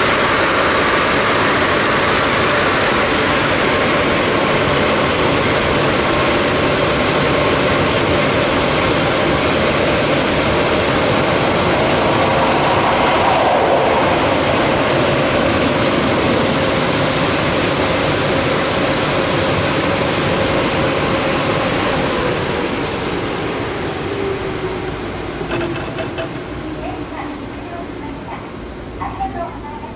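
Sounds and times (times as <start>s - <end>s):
car wash machine hum: 0.0s - 25.4s
car wash rushing noise: 0.0s - 29.0s.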